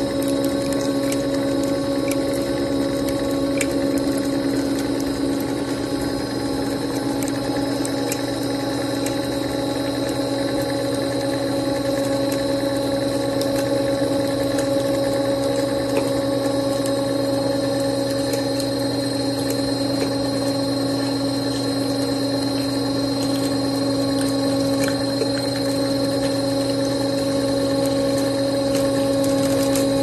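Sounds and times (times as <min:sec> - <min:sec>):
machine motor hum and whine: 0:00.0 - 0:30.0.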